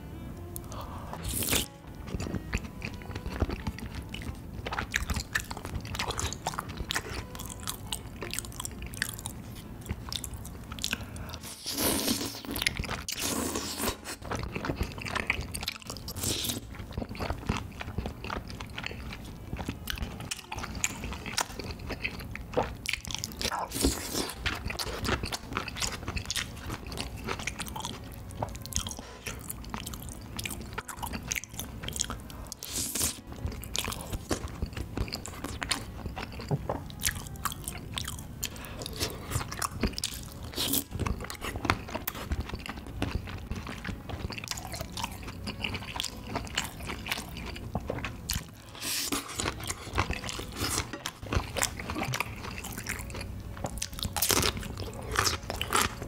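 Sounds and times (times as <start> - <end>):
chewing and mouth noises: 0.6 - 56.0.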